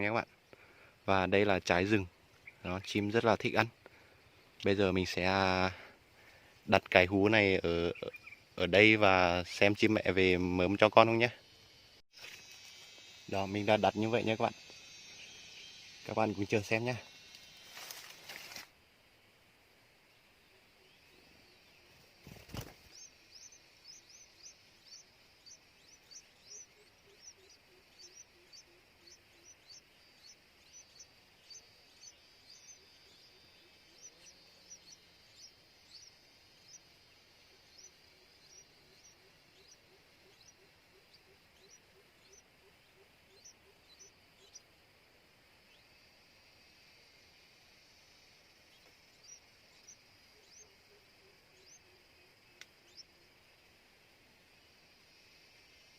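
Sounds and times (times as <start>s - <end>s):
bird chirping: 0.0s - 18.6s, 20.0s - 55.9s
background hiss: 0.0s - 55.9s.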